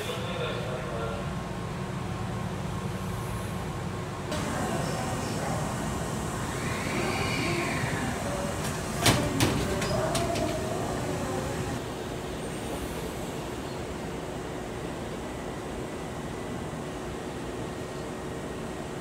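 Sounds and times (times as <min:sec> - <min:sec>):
train interior hum: 0:00.0 - 0:19.0.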